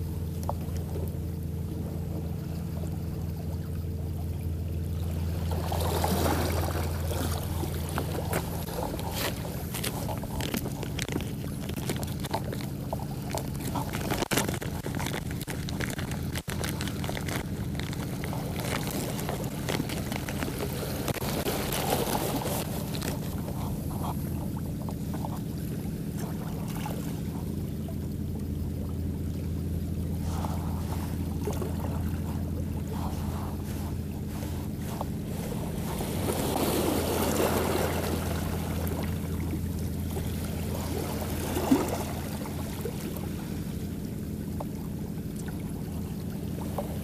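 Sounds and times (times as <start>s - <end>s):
boat engine humming: 0.0s - 47.0s
water splashing and sloshing: 0.0s - 47.0s.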